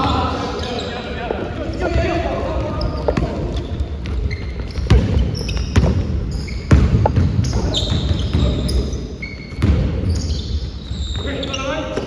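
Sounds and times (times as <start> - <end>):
sneaker squeaks: 0.0 - 12.0
basketball bouncing on court: 1.8 - 12.0.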